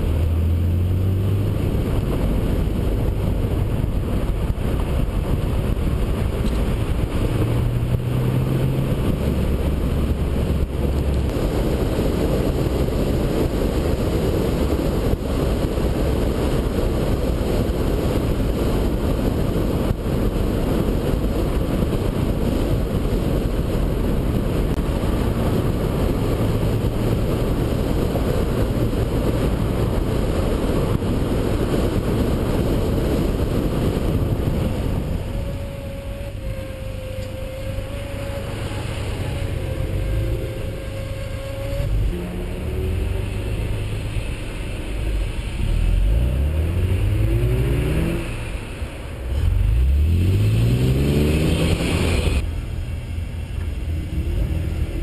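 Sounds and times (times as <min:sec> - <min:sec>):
car engine: 0:00.0 - 0:55.0
road noise: 0:00.0 - 0:55.0
wind rushing: 0:00.0 - 0:55.0.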